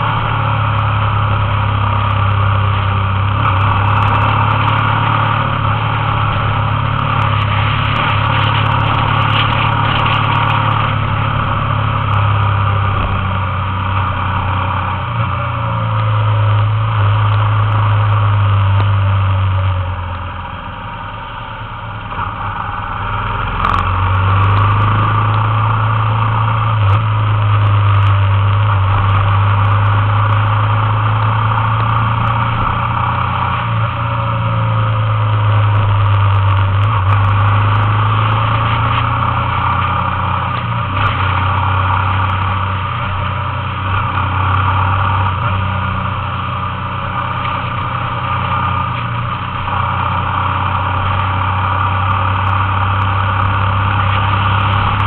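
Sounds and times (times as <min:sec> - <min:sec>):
motorbike engine running: 0:00.0 - 0:55.0
road noise: 0:00.0 - 0:55.0.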